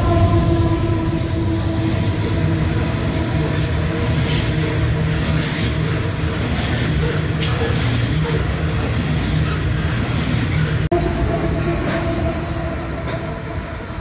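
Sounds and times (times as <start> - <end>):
locomotive hum: 0.0 - 14.0
train wheels rumbling on rail: 0.0 - 14.0.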